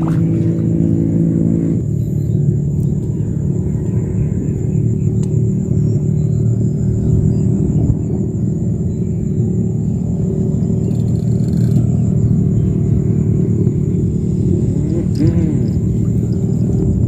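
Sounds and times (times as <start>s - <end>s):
faint high whine: 0.0s - 17.0s
loud low rumble: 0.0s - 17.0s.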